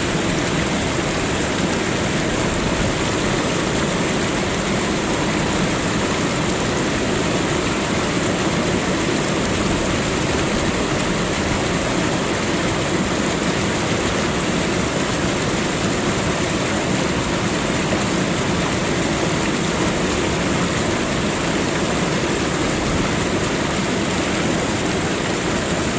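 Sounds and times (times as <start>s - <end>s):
water fountain splashing: 0.0s - 25.9s.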